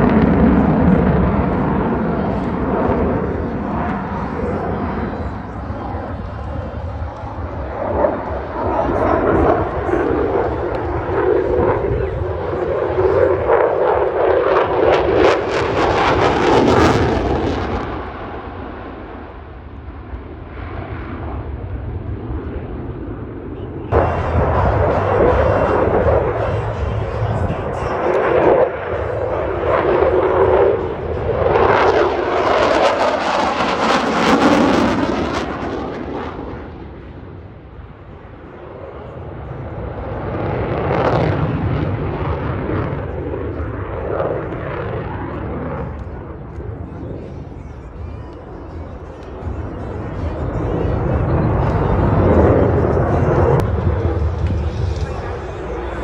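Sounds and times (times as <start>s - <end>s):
jet engines passing: 0.0s - 56.0s.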